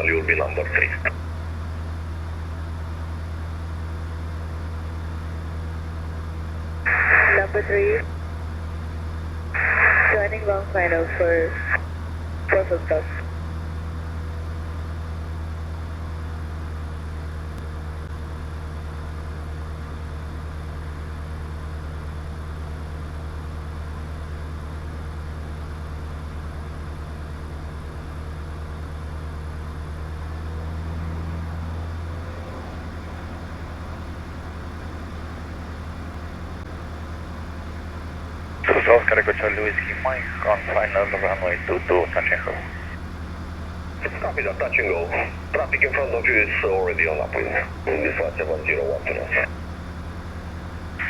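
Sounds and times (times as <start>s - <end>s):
aircraft engine and propeller droning: 0.0s - 51.0s
faint steady whine: 0.0s - 51.0s.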